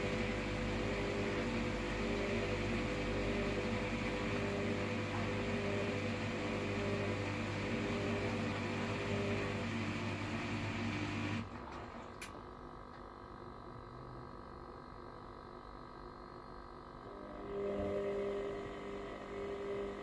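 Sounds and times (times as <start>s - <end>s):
washer-dryer humming and whirring: 0.0s - 20.0s.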